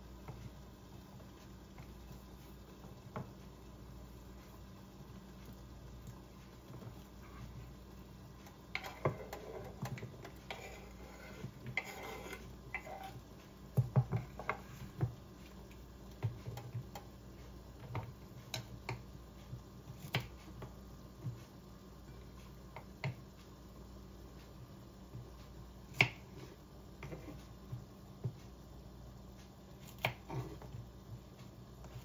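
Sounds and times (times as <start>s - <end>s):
meat simmering in covered pan: 0.0s - 32.0s.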